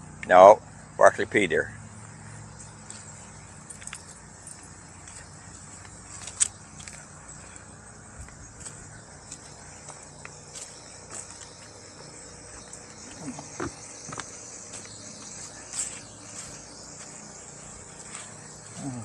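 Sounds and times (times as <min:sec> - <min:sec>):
insects chorus: 0:00.0 - 0:19.0
light footsteps and clicks: 0:02.0 - 0:18.8.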